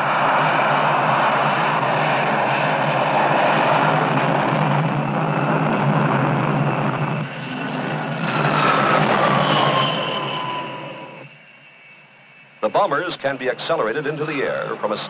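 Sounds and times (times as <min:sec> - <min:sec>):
falling jet whine: 0:00.0 - 0:15.0
jet engines roaring: 0:00.0 - 0:15.0.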